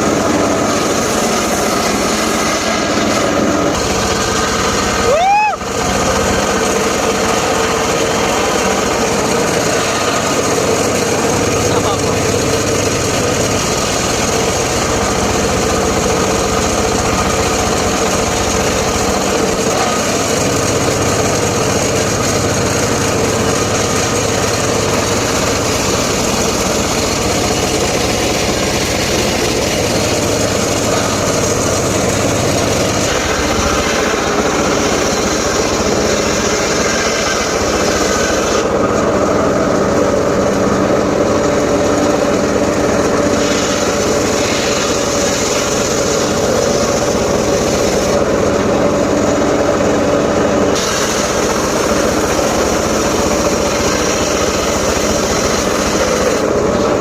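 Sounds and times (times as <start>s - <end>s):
engine-driven saw cutting wood: 0.0s - 57.0s.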